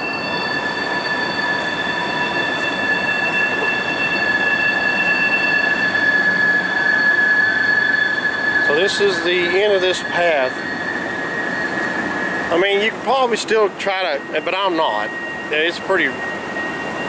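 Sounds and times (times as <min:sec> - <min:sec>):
train rolling noise: 0:00.0 - 0:17.0
train wheels squealing: 0:00.0 - 0:17.0.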